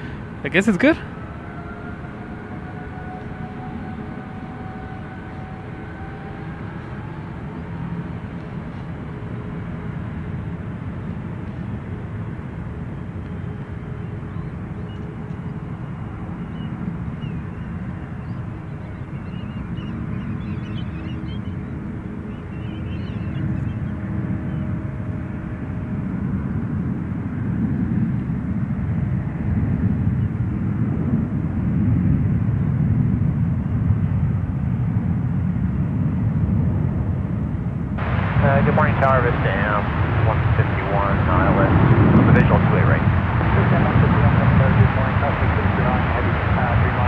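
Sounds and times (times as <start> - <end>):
jet engines at takeoff: 0.0 - 47.0.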